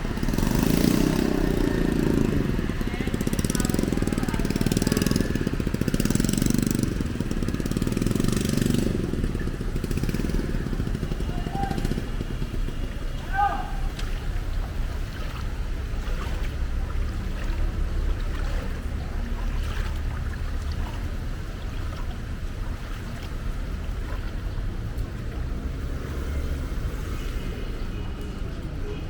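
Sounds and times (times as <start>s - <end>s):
floodwater sloshing and splashing: 0.0s - 29.0s.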